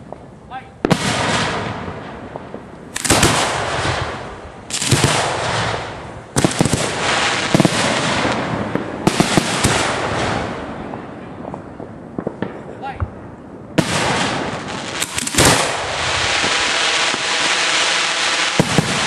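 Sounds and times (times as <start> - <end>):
fireworks crackling and hissing: 0.0 - 19.0
fireworks launching: 0.8 - 19.0.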